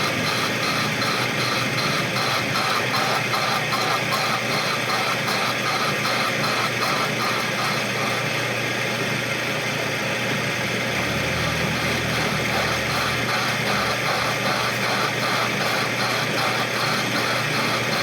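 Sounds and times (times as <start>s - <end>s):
machine running with pulsing: 0.0s - 18.0s.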